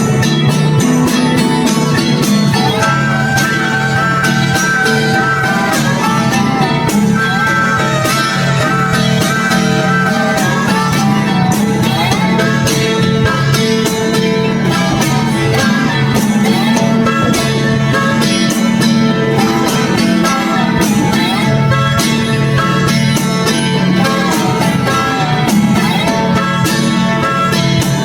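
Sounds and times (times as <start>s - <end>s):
bluegrass guitar and banjo music: 0.0s - 28.0s.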